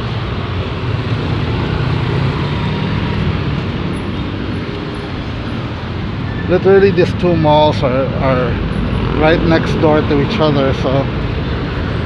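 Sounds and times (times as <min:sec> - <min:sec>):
road traffic: 0:00.0 - 0:12.0
vehicle engine humming: 0:00.0 - 0:12.0.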